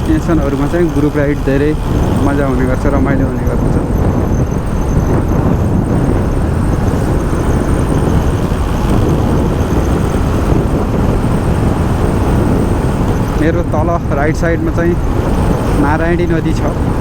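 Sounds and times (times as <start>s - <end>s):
motorcycle engine: 0.0s - 17.0s
wind buffeting microphone: 0.0s - 17.0s
wind rushing: 0.0s - 17.0s.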